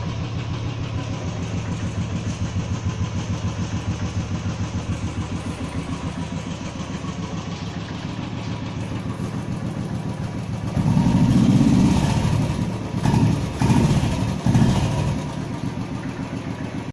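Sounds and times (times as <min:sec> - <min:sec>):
motorcycle engine idling: 0:00.0 - 0:16.9
motorcycle engine revving: 0:00.0 - 0:16.9.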